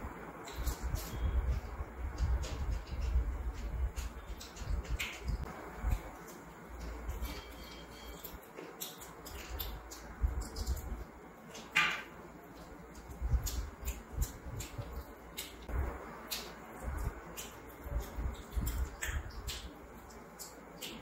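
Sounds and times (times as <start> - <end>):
person chewing meat: 2.8 - 11.6, 12.4 - 21.0.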